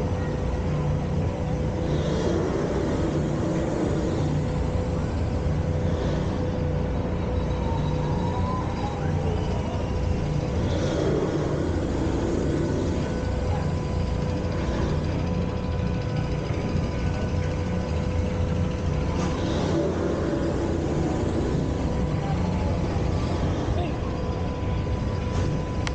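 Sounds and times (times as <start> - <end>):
boat engine rumble: 0.0 - 25.9.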